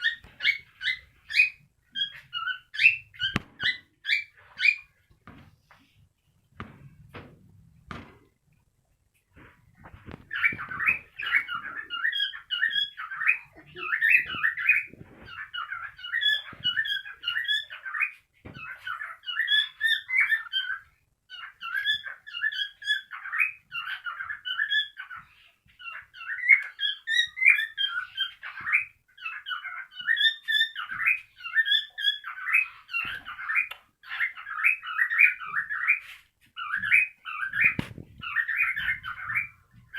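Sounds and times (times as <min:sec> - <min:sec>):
cockatiel chirping and whistling: 0:00.0 - 0:04.9, 0:10.2 - 0:39.9.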